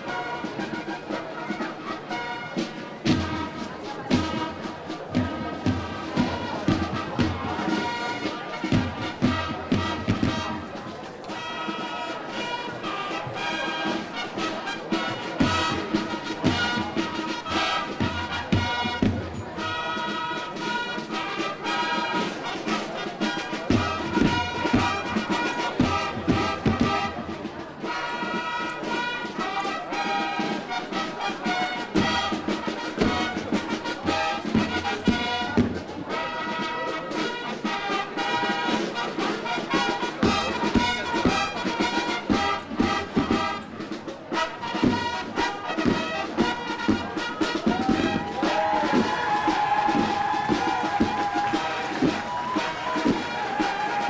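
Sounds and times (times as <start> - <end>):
brass fanfares: 0.0 - 54.0
marching drums: 0.0 - 54.0.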